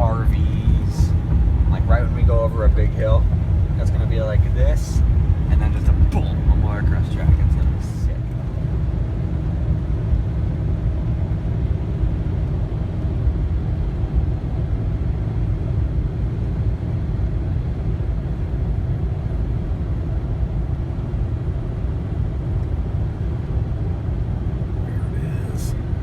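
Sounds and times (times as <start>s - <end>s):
vehicle cabin road rumble: 0.0s - 26.0s.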